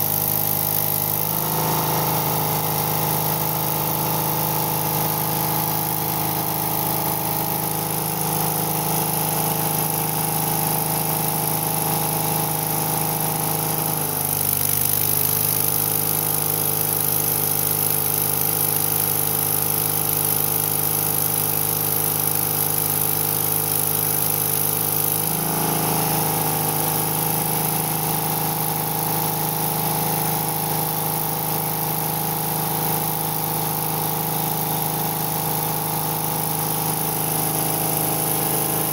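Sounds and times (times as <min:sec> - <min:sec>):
welder engine running: 0:00.0 - 0:38.9.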